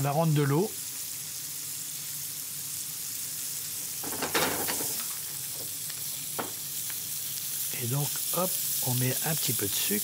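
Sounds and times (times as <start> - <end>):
butter sizzling in a frying pan: 0.0 - 10.0.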